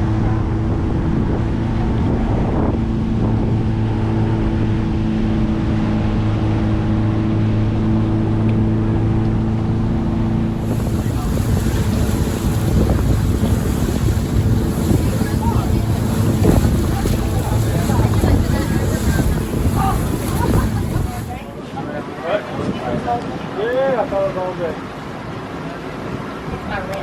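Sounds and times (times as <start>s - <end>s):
boat engine humming: 0.0s - 21.6s
wind on microphone: 0.0s - 23.6s
water rushing past: 0.0s - 27.0s.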